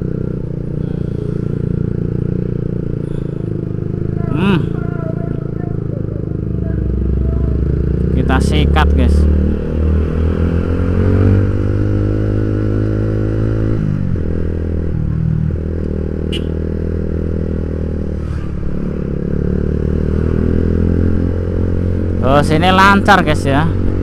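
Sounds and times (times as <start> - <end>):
motorcycle engine under throttle: 0.0 - 24.0.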